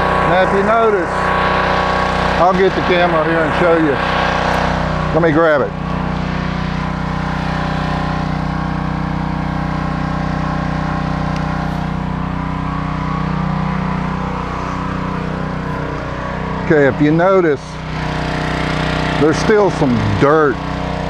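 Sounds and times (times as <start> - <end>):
pressure washer engine running: 0.0 - 21.0.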